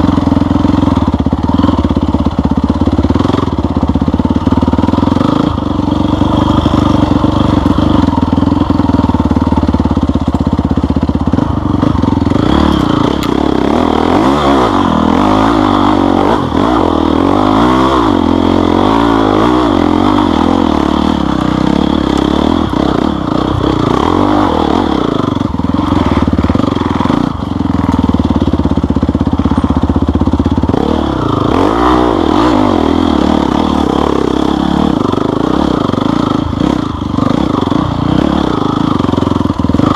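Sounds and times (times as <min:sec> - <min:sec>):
off-road engine revving: 0:00.0 - 0:39.9.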